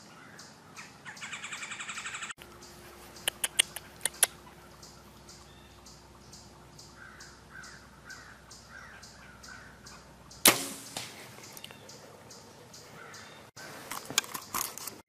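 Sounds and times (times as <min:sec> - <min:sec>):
bird chirps: 0:00.0 - 0:10.5, 0:11.2 - 0:13.8.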